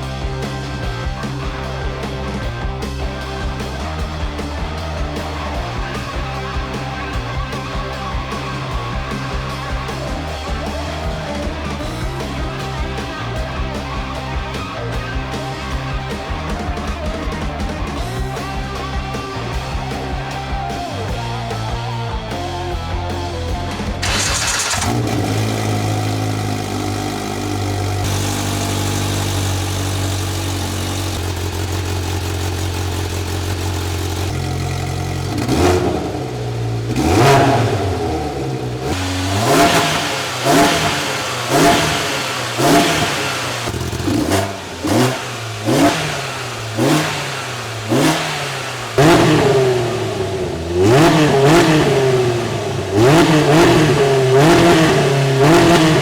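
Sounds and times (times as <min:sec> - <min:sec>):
engine idling and revving: 0:00.0 - 0:56.0.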